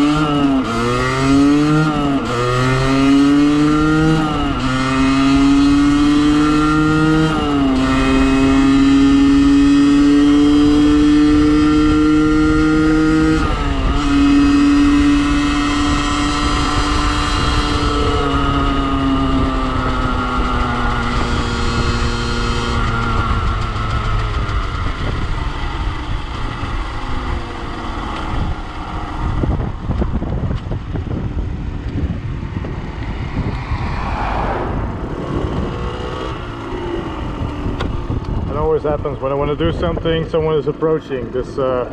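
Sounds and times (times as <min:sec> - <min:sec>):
two-stroke engine accelerating: 0:00.0 - 0:41.9.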